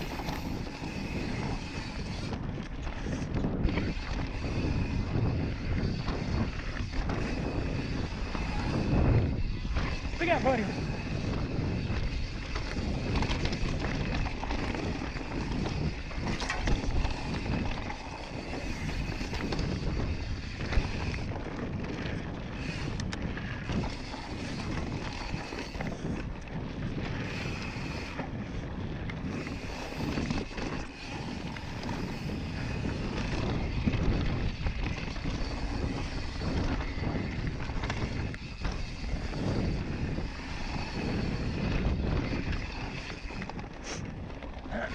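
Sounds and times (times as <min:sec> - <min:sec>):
tyres rolling over dirt: 0:00.0 - 0:44.9
wind buffeting microphone: 0:00.0 - 0:44.9.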